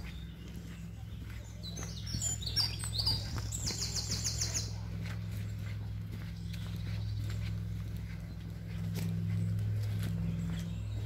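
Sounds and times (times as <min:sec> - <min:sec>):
songbird singing with trill: 0:00.0 - 0:08.5, 0:09.3 - 0:11.0
footsteps on woodland path: 0:00.0 - 0:11.0.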